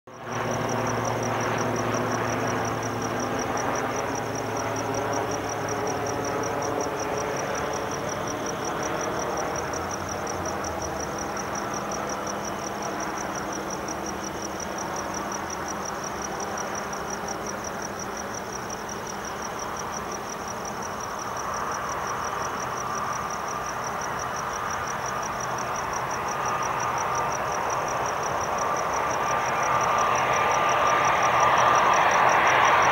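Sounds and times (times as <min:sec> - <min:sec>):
crickets chirping: 0:00.1 - 0:32.9
distant jet engine: 0:00.1 - 0:32.9.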